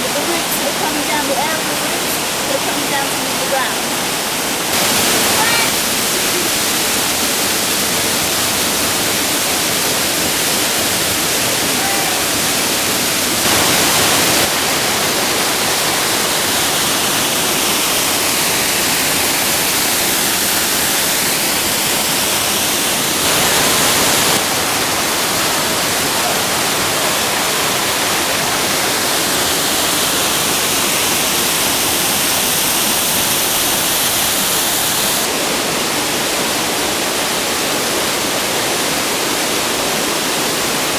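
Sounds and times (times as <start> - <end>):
waterfall rushing into pool: 0.0 - 40.9.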